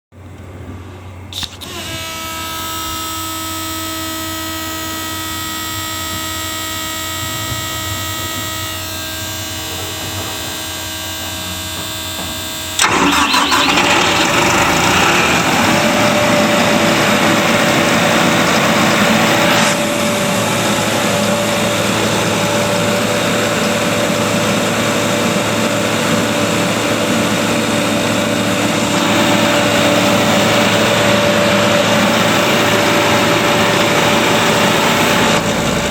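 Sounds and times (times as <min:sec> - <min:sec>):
compressor diesel engine running: 0:00.2 - 0:35.9.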